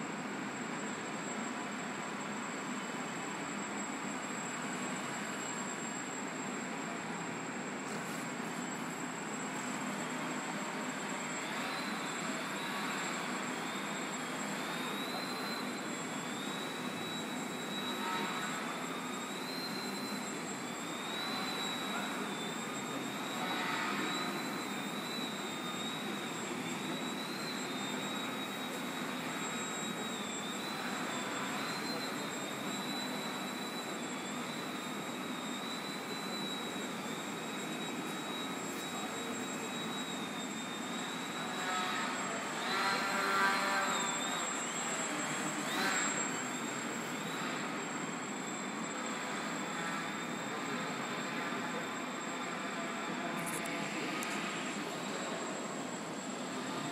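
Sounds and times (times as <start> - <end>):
model plane propeller whine: 0.0 - 56.9.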